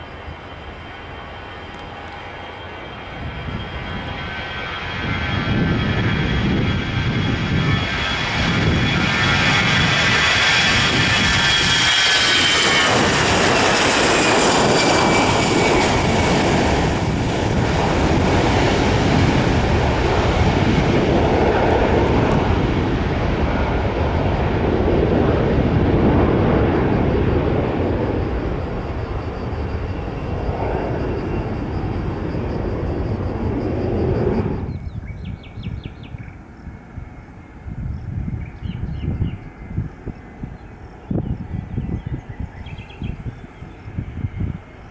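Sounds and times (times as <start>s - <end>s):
jet engine roar at takeoff: 0.0s - 44.9s
jet engine whine falling in pitch: 0.0s - 44.9s.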